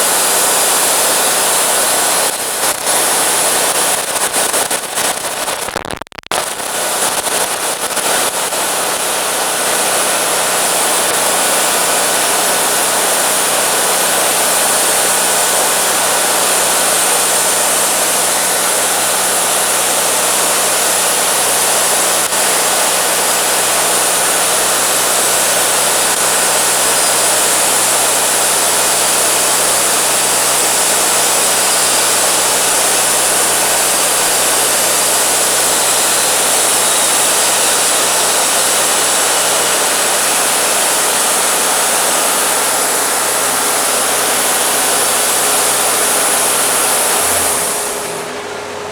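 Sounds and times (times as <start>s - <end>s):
band sawmill and blower hum: 6.4s - 48.9s.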